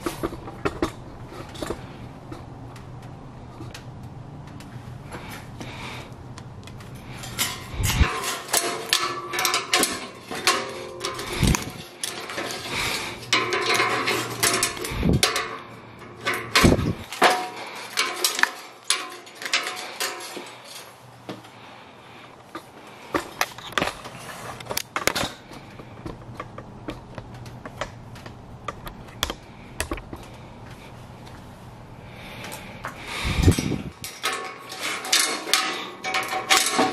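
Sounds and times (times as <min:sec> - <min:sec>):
metallic clicks and scrapes of wire: 0:00.0 - 0:31.5, 0:32.1 - 0:36.9.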